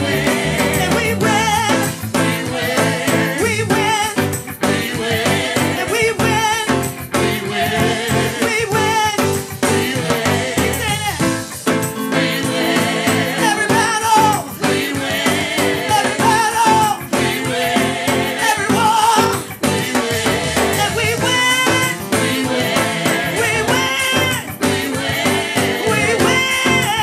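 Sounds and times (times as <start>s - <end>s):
band playing worship music: 0.0s - 27.0s.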